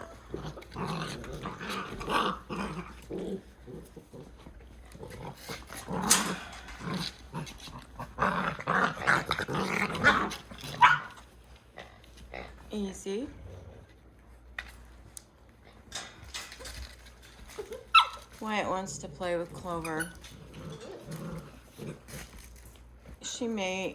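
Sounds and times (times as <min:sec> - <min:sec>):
puppies play-growling: 0:00.0 - 0:23.2.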